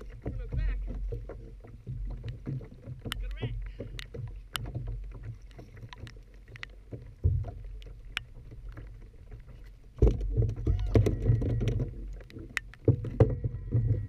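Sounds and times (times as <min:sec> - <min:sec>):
water lapping on hull: 0:00.0 - 0:14.0.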